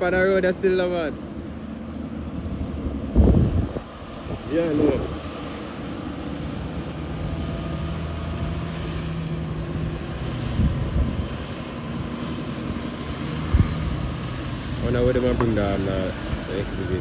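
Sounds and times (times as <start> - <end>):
heavy truck diesel engine droning: 0.0 - 17.0.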